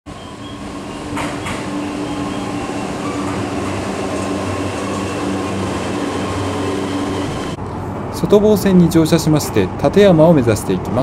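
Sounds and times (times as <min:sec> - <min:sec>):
electric train rumble: 0:00.1 - 0:09.9.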